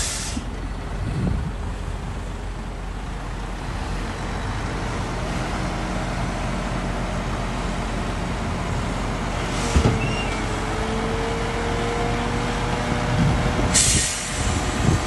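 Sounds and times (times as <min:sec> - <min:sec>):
heavy diesel engine drone: 0:00.0 - 0:15.0.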